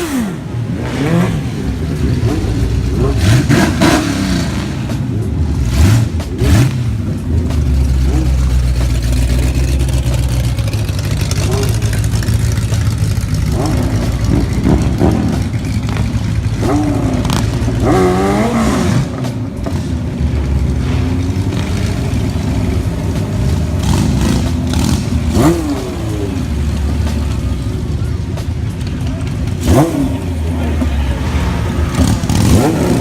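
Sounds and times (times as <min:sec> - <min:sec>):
vehicle engines revving: 0:00.0 - 0:33.0.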